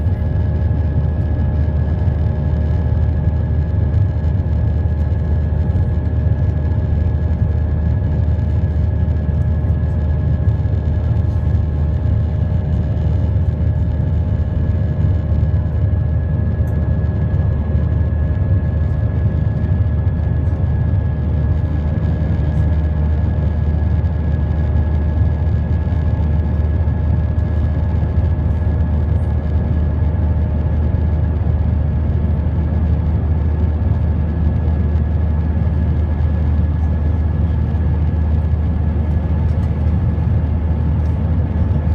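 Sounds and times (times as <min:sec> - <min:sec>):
constant high whine: 0:00.0 - 0:41.9
jet engine drone in cabin: 0:00.0 - 0:41.9.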